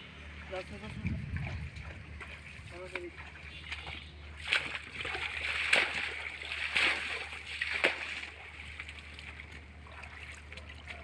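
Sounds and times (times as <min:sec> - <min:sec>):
footsteps splashing in muddy water: 0:00.5 - 0:11.0.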